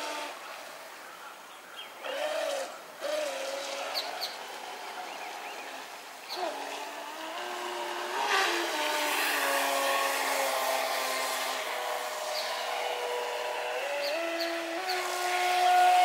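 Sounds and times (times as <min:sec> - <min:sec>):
model boat motors whining: 0:00.0 - 0:00.9, 0:02.0 - 0:16.0.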